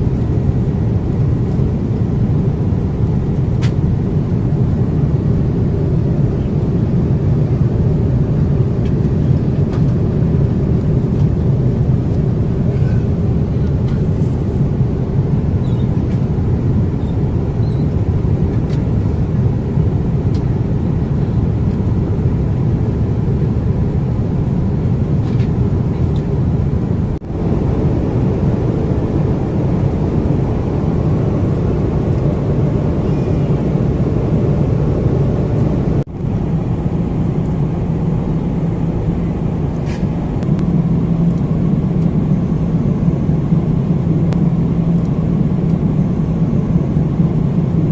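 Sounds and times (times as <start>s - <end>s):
airplane cabin noise: 0.0s - 47.9s.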